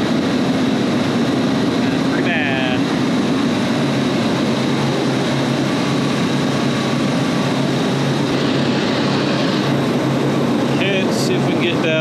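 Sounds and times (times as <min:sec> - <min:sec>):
refrigeration machinery drone: 0:00.0 - 0:12.0.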